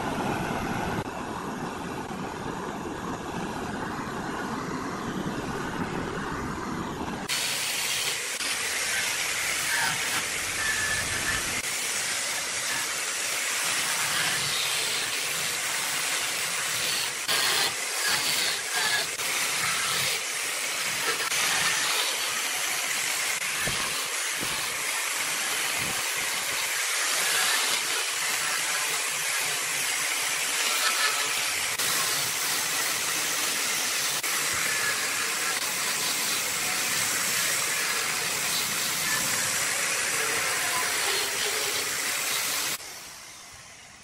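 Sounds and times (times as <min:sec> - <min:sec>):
angle grinder sanding hiss: 0:07.3 - 0:44.0.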